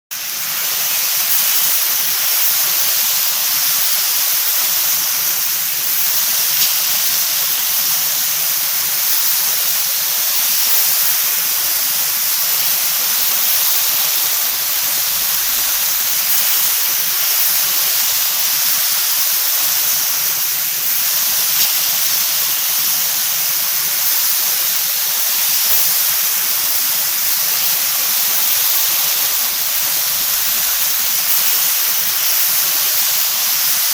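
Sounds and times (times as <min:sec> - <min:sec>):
meat sizzling in a pan: 0:00.1 - 0:33.9.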